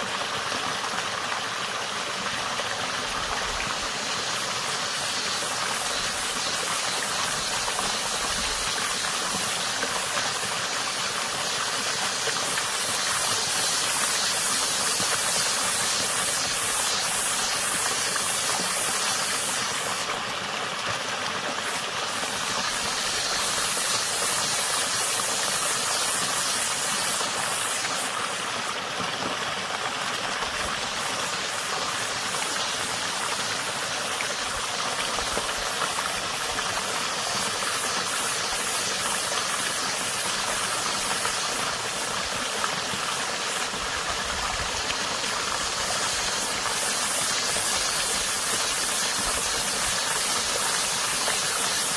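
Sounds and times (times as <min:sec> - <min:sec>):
water running in a stream: 0:00.0 - 0:51.9.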